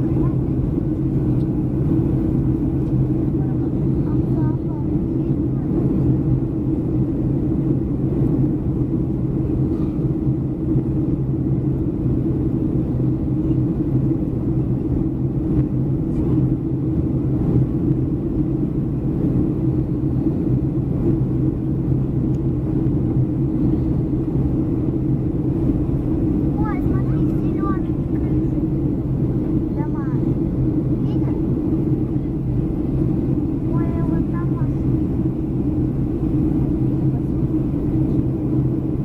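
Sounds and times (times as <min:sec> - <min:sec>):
airliner cabin engine drone: 0:00.0 - 0:39.0.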